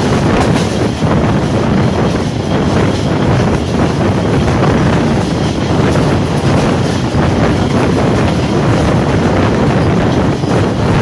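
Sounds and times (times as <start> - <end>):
train coaches rumbling on track: 0.0 - 11.0
wind buffeting microphone: 0.0 - 11.0.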